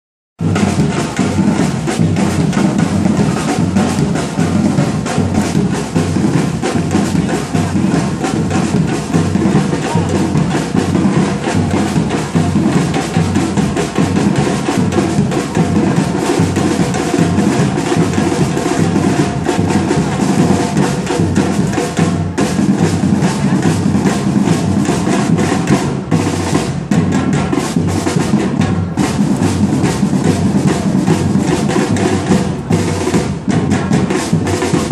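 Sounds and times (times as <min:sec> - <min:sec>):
bass drums and snare drums beating: 0:00.4 - 0:34.9.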